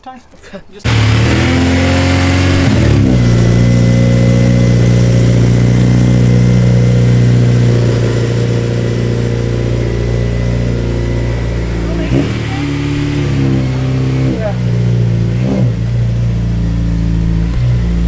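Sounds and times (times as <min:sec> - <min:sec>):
car engine running: 0:00.9 - 0:18.0.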